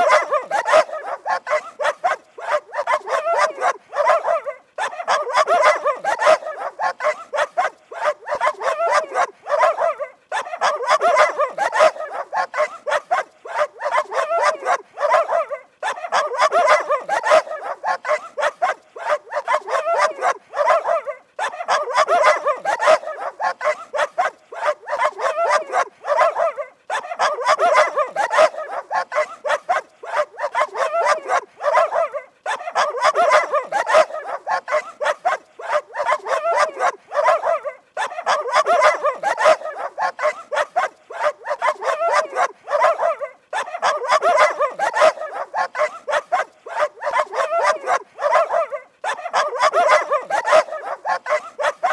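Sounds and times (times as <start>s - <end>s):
dog barking rapidly: 0.0s - 51.9s.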